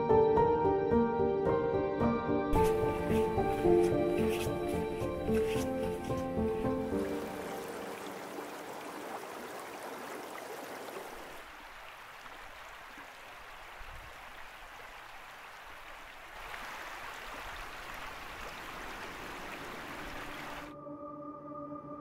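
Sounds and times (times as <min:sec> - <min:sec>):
stream water rushing: 0:02.6 - 0:20.7.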